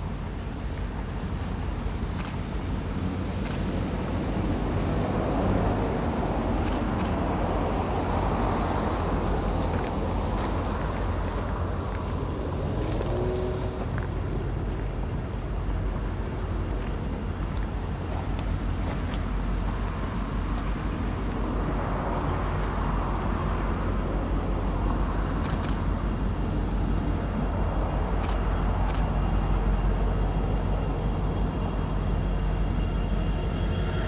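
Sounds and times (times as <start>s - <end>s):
distant freight train rumble: 0.0s - 34.0s.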